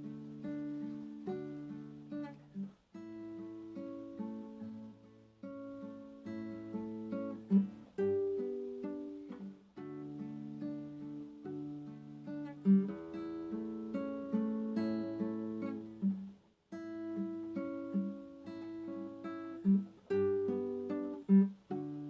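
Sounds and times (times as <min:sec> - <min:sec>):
acoustic guitar plucked notes: 0:00.0 - 0:22.0.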